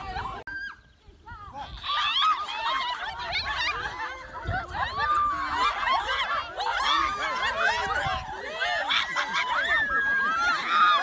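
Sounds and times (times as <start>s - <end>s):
young people shouting and laughing: 0.0s - 11.0s.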